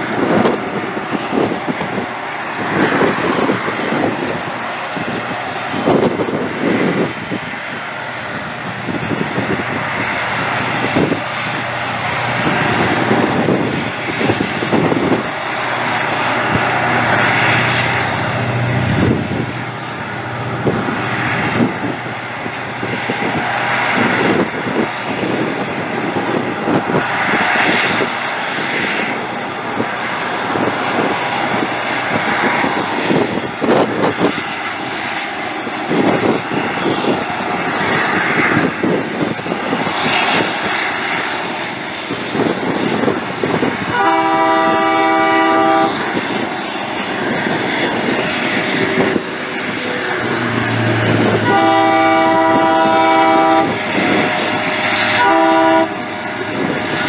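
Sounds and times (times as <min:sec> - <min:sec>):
locomotive engine drone: 0:00.0 - 0:57.0.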